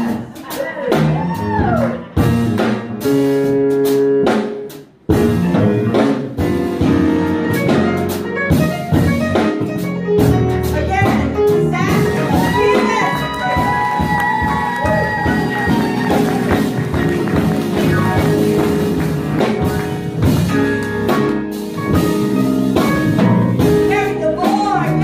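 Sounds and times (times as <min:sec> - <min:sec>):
drum kit hits: 0:00.0 - 0:25.0
electric bass: 0:00.0 - 0:25.0
keyboard chords: 0:02.1 - 0:25.0.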